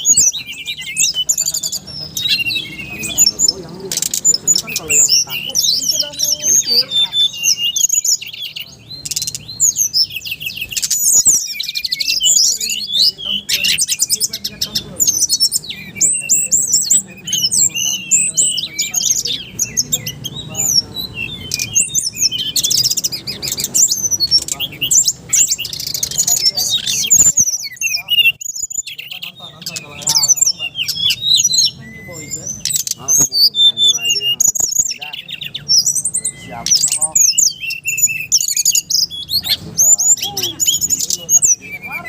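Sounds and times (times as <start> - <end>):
songbirds singing: 0.0 - 42.0.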